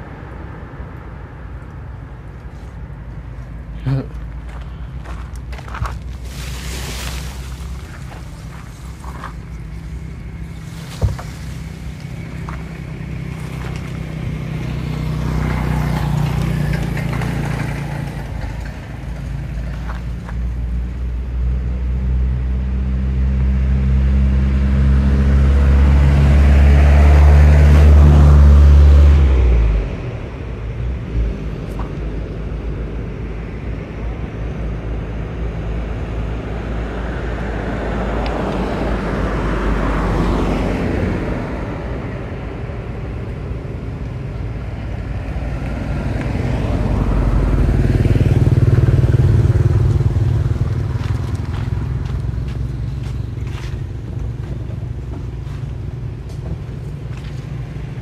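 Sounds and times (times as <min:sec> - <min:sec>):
loud engine hum: 0:00.0 - 0:58.0
passing vehicle noise: 0:00.0 - 0:58.0.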